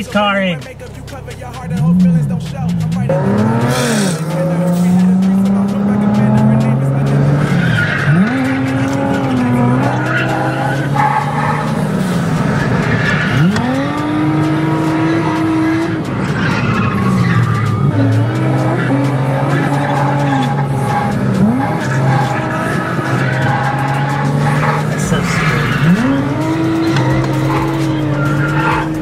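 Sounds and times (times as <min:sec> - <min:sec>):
tires squealing: 0:00.0 - 0:29.0
car engine revving hard: 0:01.8 - 0:29.0.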